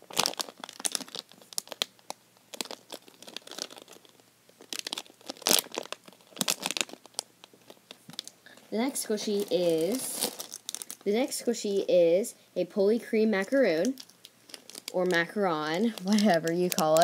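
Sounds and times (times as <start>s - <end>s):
plastic packet crinkling: 0.0s - 11.2s, 13.4s - 17.0s.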